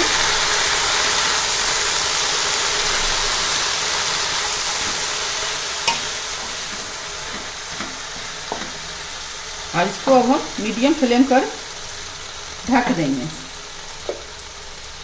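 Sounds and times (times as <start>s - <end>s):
leaves sizzling in hot oil: 0.0s - 15.0s.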